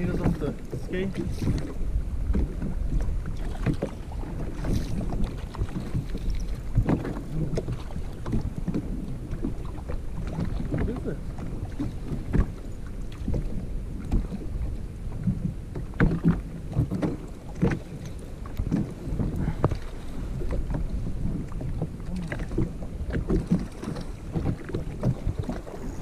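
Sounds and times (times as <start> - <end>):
waves slapping against hull: 0.0 - 26.0
wind buffeting microphone: 0.0 - 26.0.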